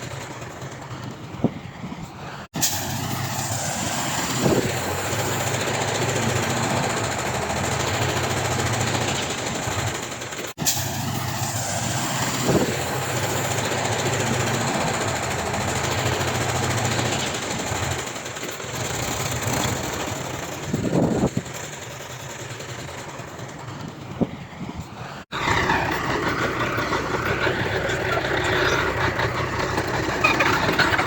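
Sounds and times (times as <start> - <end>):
diesel machinery running: 0.0 - 31.0.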